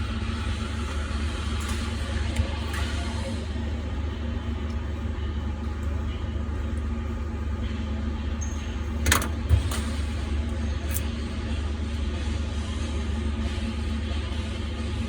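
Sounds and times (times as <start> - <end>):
workshop background hum: 0.0 - 15.0.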